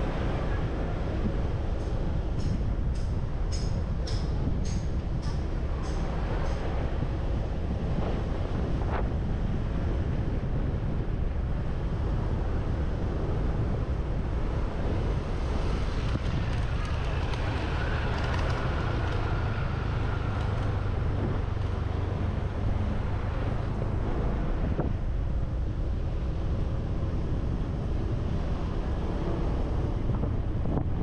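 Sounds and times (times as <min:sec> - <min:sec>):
road traffic: 0:00.0 - 0:31.0
wind buffeting microphone: 0:00.0 - 0:31.0.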